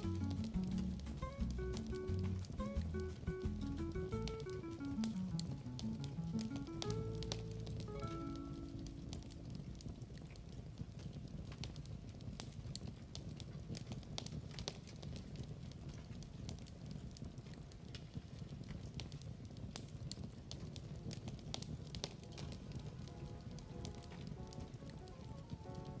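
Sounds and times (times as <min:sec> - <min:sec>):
log fire crackling: 0:00.0 - 0:26.0.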